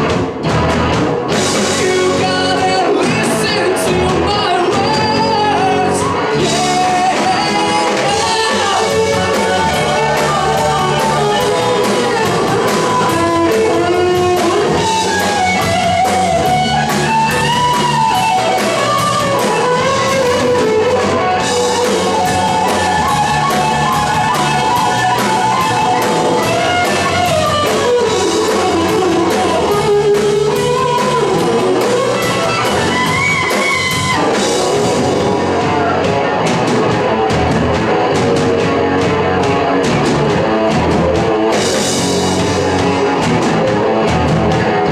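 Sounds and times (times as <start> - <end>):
bass guitar: 0.0 - 44.9
drum kit: 0.0 - 44.9
electric guitar lead bending: 0.0 - 44.9.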